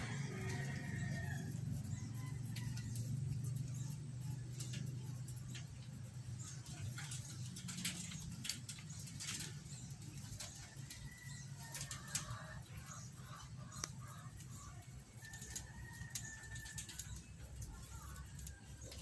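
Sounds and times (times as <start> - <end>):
birds cooing: 0.0 - 19.0.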